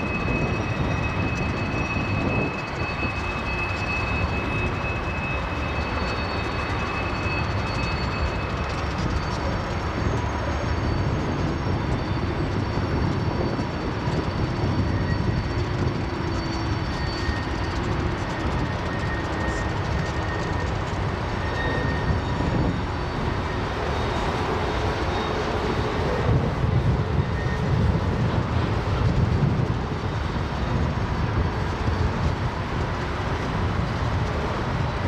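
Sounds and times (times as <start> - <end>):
freight train rumbling past: 0.0 - 35.0
high wheel squeals: 0.0 - 35.0.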